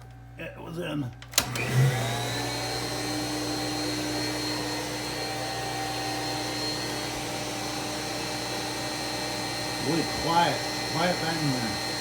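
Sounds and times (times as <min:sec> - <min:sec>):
vacuum cleaner motor running: 0:01.4 - 0:12.0.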